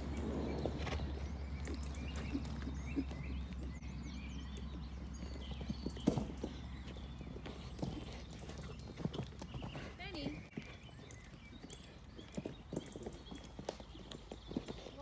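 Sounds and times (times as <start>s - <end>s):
horse hooves on soft ground: 0.0s - 15.0s.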